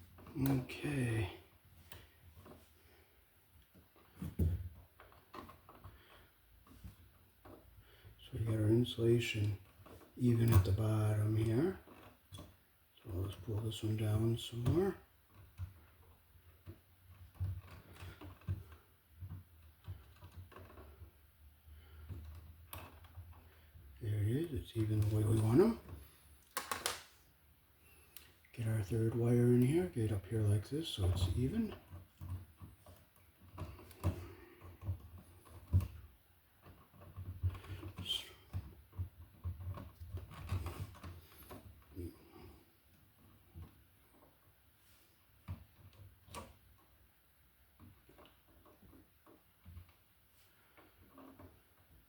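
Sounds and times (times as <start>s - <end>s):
electrical wires clicking and tapping: 0.0s - 52.0s.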